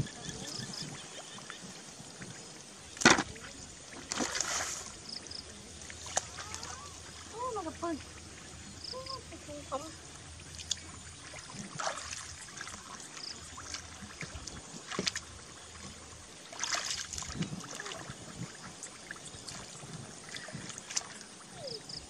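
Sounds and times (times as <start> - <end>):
sloshing in muddy water: 0.0 - 22.0.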